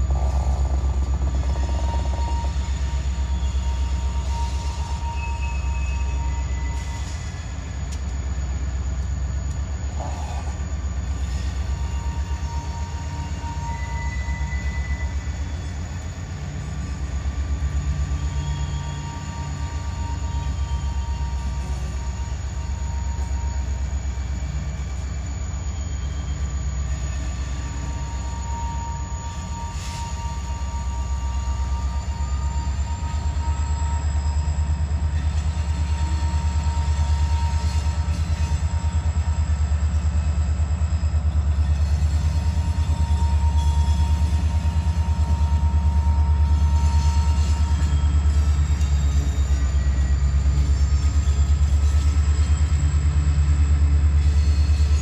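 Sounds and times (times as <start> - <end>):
freight train rumble: 0.0 - 55.0
train wheel squeal: 0.0 - 55.0.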